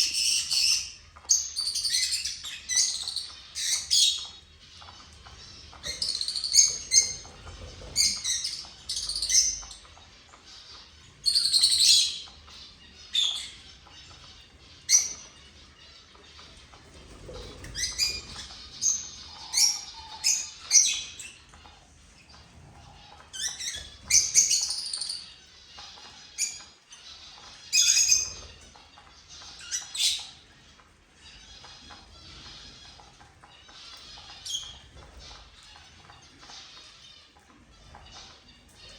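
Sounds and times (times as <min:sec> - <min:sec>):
cage birds chirping: 0:00.0 - 0:38.9.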